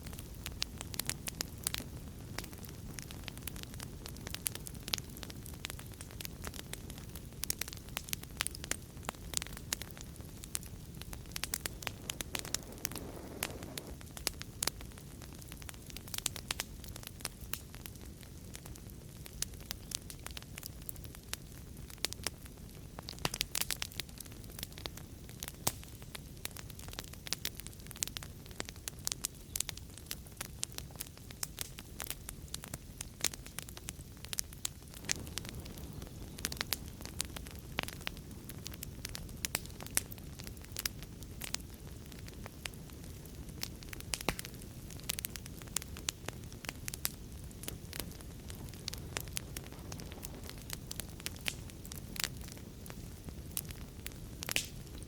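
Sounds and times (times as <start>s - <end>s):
flames rumbling and hissing: 0.0s - 55.0s
wood fire pops and snaps: 0.0s - 55.0s.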